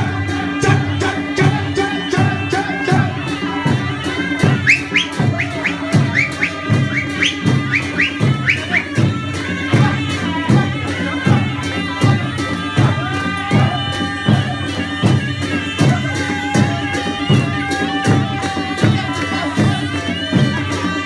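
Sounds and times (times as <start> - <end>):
shehnai reed melody: 0.0 - 21.0
steady drum beat: 0.0 - 21.0.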